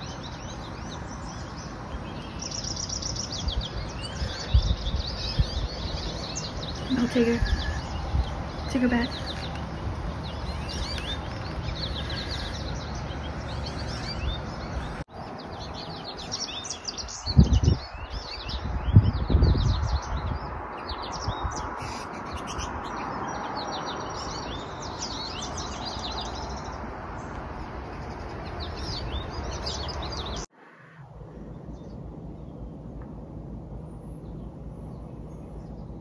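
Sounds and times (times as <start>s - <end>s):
songbirds chirping and trilling: 0.0s - 36.0s.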